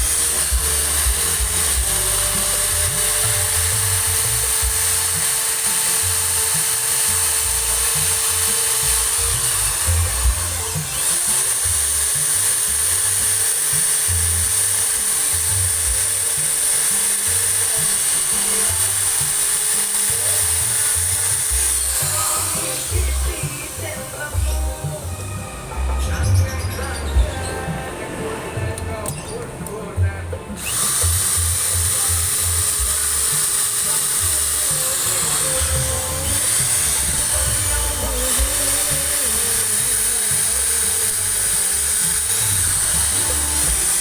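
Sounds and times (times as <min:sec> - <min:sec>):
electric grinder grinding metal: 0:00.0 - 0:44.0.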